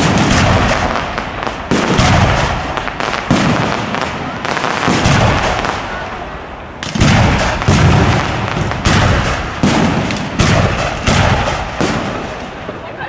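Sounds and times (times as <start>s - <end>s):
firework shells bursting: 0.0s - 6.0s, 6.8s - 12.8s.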